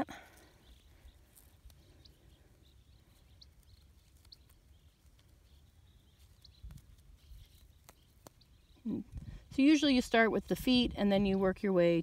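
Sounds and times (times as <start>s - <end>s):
faint high bird chirps: 0.2s - 10.0s.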